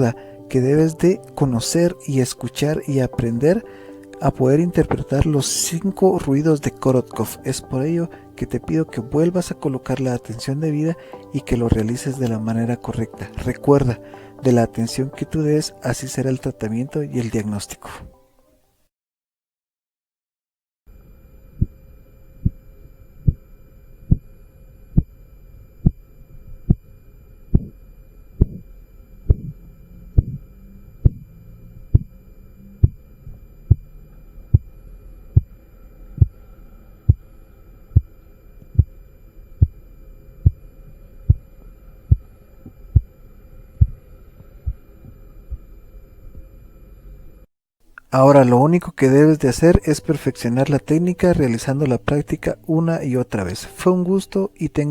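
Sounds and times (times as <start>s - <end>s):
steady hum: 0.0s - 18.2s, 20.9s - 54.9s.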